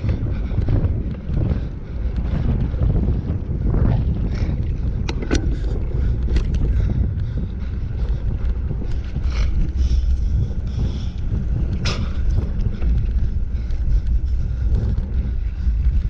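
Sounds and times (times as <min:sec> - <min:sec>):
wind buffeting on microphone: 0:00.0 - 0:16.0.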